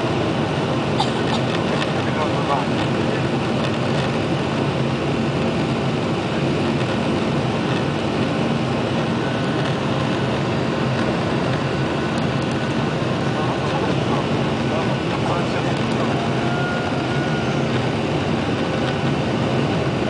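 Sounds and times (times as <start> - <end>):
jet engines at climb power: 0.0 - 20.0.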